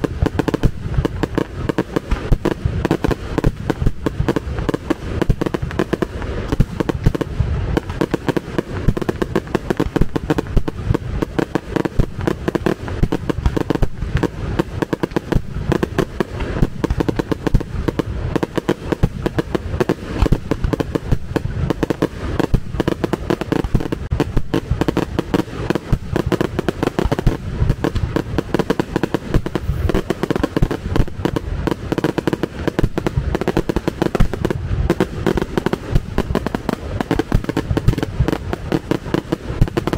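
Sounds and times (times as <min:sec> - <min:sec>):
fireworks exploding: 0:00.0 - 0:39.9.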